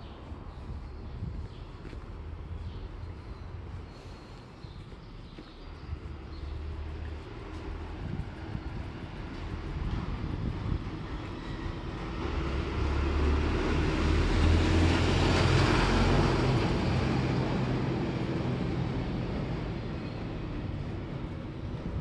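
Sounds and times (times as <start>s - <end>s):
street noise: 0.0s - 22.0s.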